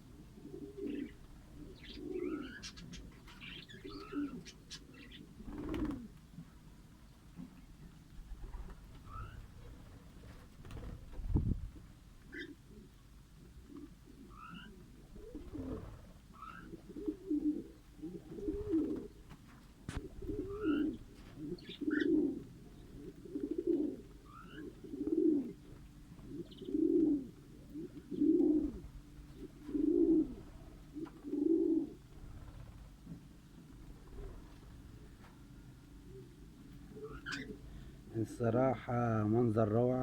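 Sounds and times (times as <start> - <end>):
dove cooing: 0.0 - 6.2, 8.3 - 11.0, 12.3 - 38.1
small birds chirping: 0.4 - 9.7, 13.8 - 38.0.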